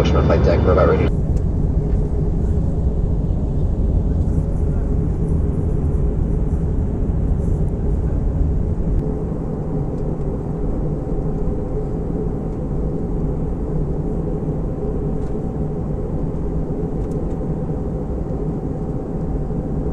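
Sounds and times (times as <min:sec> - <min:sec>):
airplane cabin engine noise: 0:00.0 - 0:19.9.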